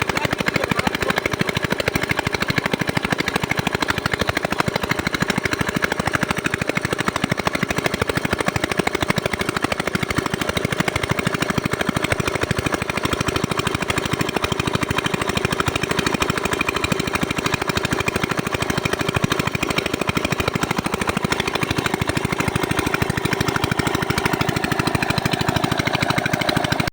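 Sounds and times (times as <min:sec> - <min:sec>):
diesel engine knocking: 0:00.0 - 0:26.9.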